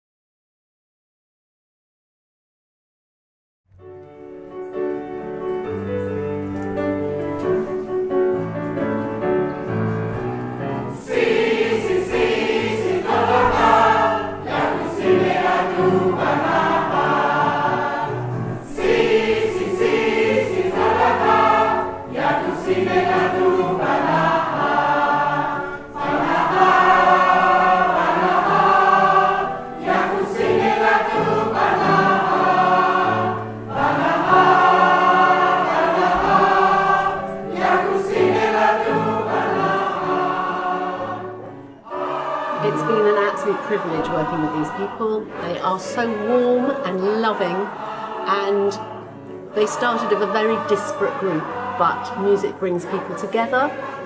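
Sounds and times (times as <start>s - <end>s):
mixed choir singing: 9.6s - 54.0s.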